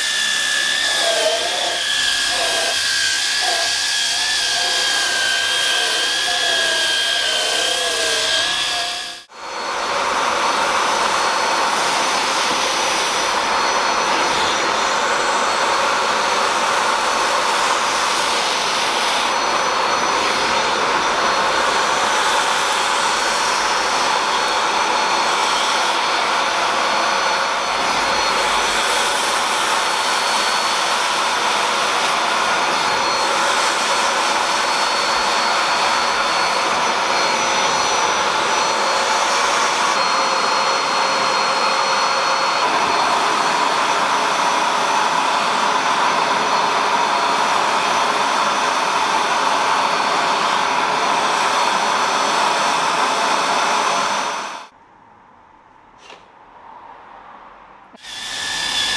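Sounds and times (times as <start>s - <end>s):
cordless drill motor whine: 0.0s - 54.7s, 58.0s - 58.9s
vacuum cleaner hissing: 0.0s - 54.7s, 58.0s - 58.9s.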